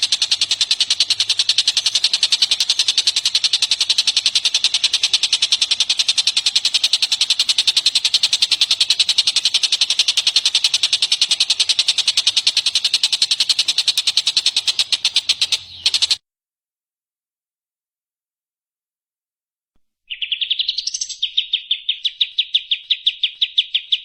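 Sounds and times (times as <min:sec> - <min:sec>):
songbird calling shrill notes: 0:00.0 - 0:16.2, 0:20.1 - 0:24.0.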